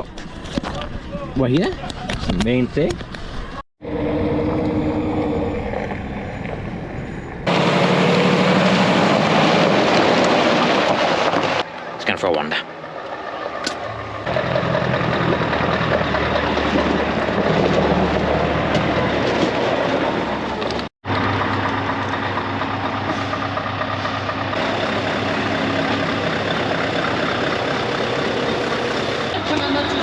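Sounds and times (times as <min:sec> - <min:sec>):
diesel lorry engines idling: 0:03.8 - 0:30.0.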